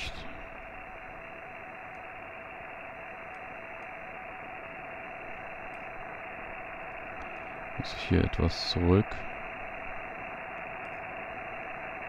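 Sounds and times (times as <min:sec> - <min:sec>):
radio hiss: 0:00.0 - 0:12.0
steady whistling tone: 0:00.0 - 0:12.0.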